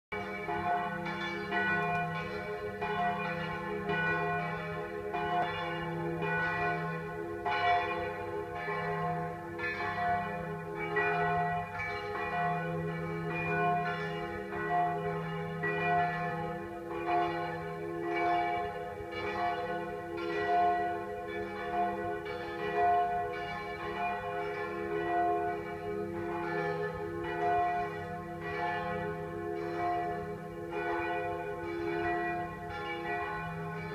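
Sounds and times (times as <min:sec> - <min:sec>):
church bells ringing: 0:00.1 - 0:33.9.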